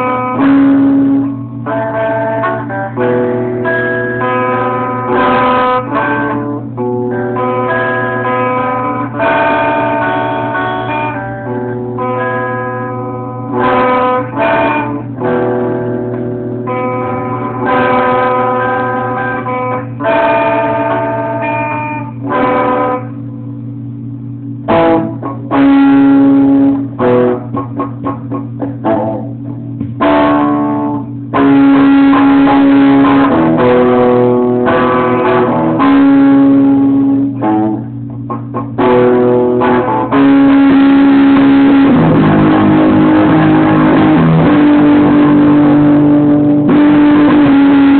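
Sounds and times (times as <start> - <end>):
guitar playing: 0.0 - 47.9
steady low hum: 0.0 - 47.9.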